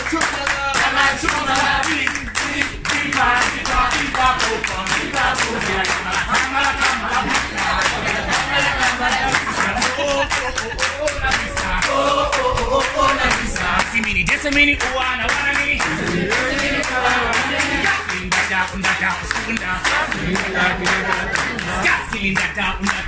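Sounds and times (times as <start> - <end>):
group of people singing: 0.0 - 23.0
hands clapping to a beat: 0.0 - 23.0.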